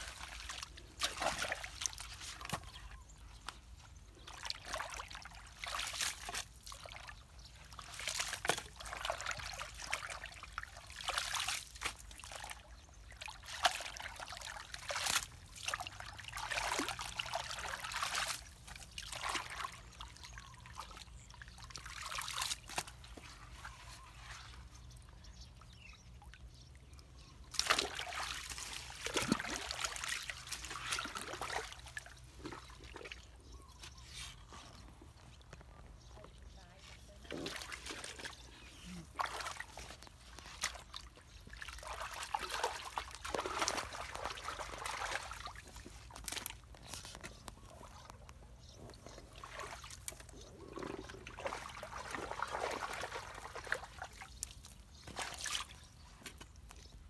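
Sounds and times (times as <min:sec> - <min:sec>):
splashes in shallow water: 0:00.0 - 0:03.0, 0:04.3 - 0:24.5, 0:27.5 - 0:33.7, 0:37.1 - 0:46.7, 0:49.0 - 0:56.6
muddy water trickling: 0:00.0 - 0:57.0.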